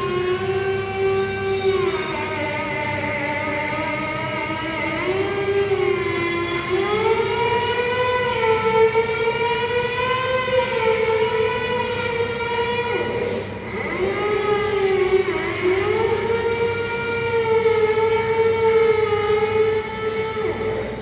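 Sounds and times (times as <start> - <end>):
air-raid siren wailing: 0.0 - 21.0.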